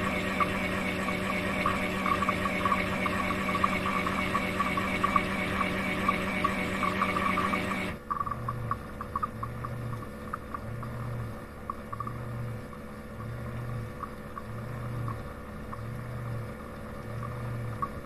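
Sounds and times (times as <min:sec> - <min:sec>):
motor with rapid ticking: 0:00.0 - 0:18.0
pulsing low hum: 0:00.0 - 0:18.0.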